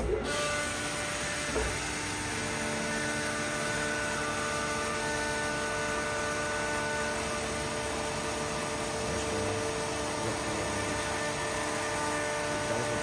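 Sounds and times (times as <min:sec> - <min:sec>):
bending machine humming: 0:00.0 - 0:13.0.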